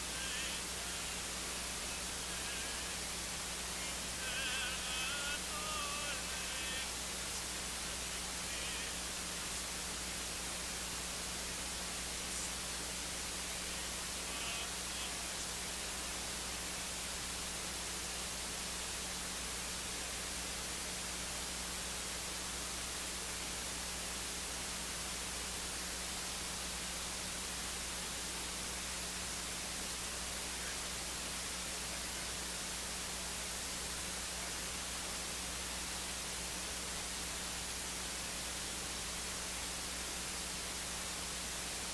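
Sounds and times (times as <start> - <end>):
low even hum: 0.0 - 41.9
steady hiss: 0.0 - 41.9.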